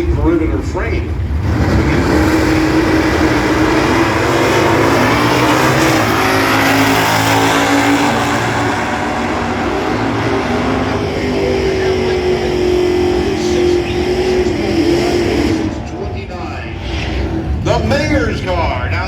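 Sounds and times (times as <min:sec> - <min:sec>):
race cars at full throttle: 0:00.0 - 0:19.0.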